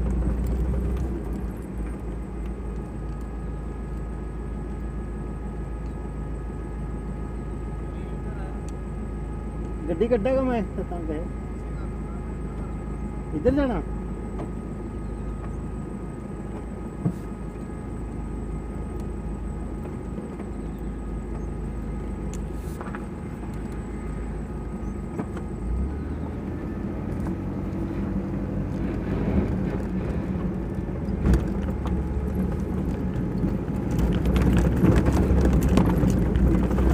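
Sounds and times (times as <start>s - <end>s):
car engine: 0.0s - 36.9s.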